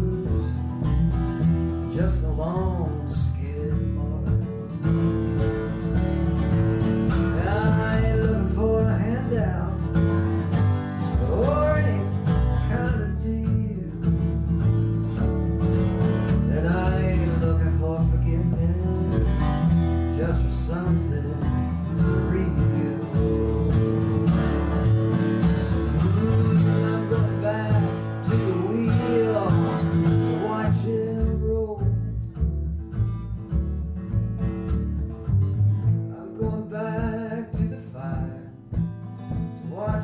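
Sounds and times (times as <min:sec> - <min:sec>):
acoustic bluegrass guitar music: 0:00.0 - 0:40.0.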